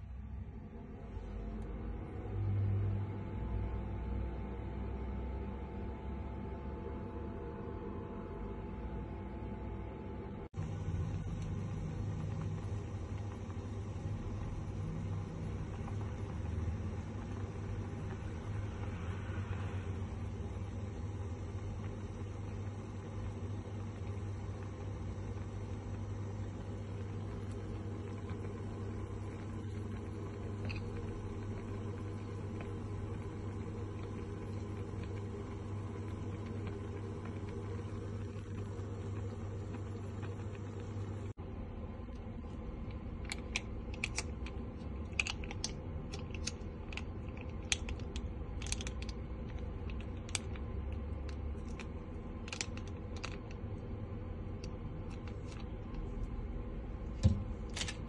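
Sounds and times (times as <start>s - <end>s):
low electrical hum: 0.0s - 58.0s
water boiling in pot: 10.5s - 58.0s.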